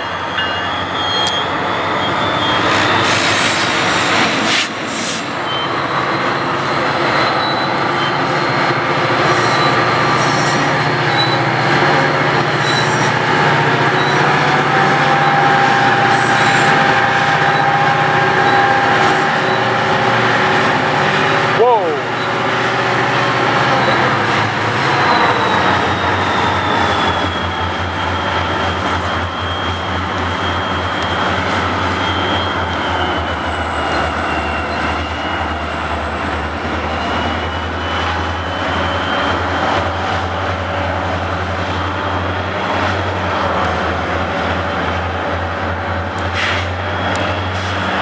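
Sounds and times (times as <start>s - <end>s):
diesel locomotive engines droning: 0.0s - 48.0s.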